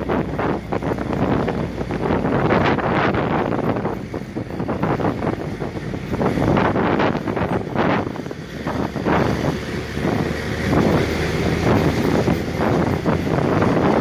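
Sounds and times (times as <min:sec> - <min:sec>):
jeep engine and road noise: 0:00.0 - 0:14.0
wind buffeting the microphone: 0:00.0 - 0:14.0.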